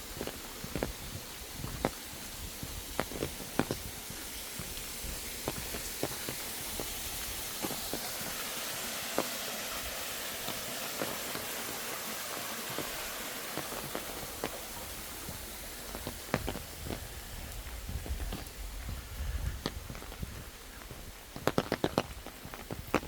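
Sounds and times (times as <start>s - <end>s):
footsteps on forest trail: 0.0s - 23.0s
steady high hiss: 0.0s - 23.0s.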